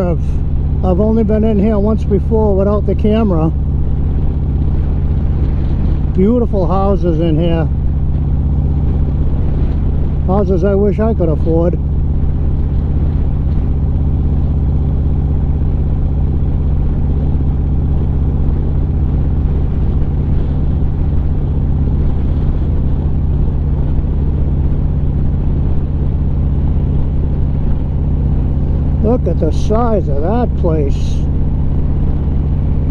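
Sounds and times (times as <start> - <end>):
motorcycle engine rumbling: 0.0 - 32.9.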